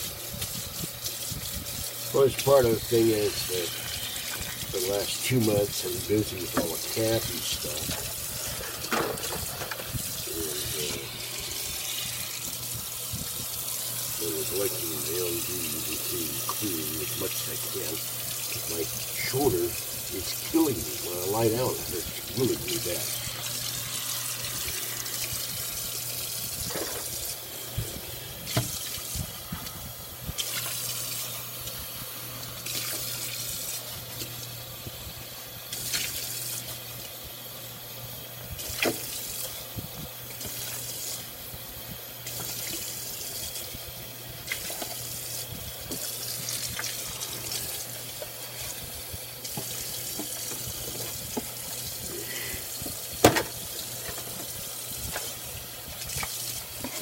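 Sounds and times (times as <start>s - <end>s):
faucet running into sink: 0.0s - 57.0s.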